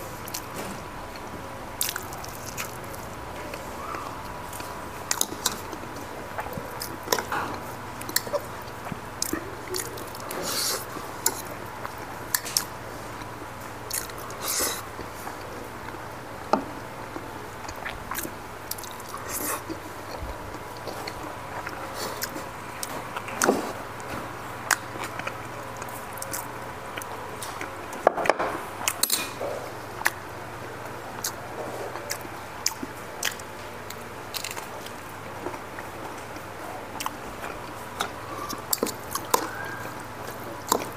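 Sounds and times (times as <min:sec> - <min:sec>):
faint steady hum: 0:00.0 - 0:40.9
chewing and biting: 0:00.2 - 0:16.2, 0:17.0 - 0:28.0, 0:31.1 - 0:40.9.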